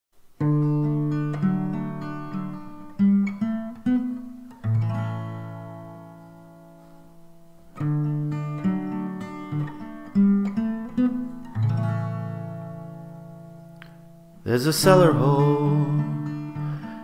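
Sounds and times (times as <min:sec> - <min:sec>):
acoustic guitar picking: 0:00.3 - 0:17.0.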